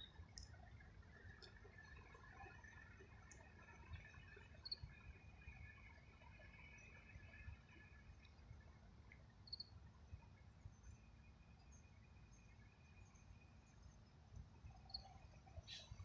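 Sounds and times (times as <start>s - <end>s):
faint high steady chirring: 0.0s - 16.0s.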